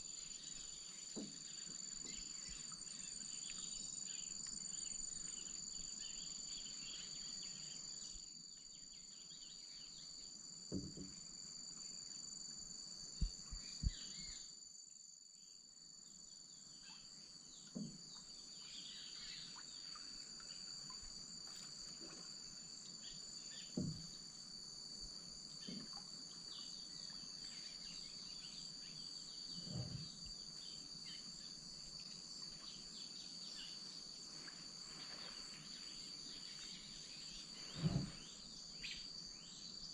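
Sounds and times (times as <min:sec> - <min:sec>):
insects buzzing: 0:00.0 - 0:39.9
insects chirping: 0:00.0 - 0:39.9.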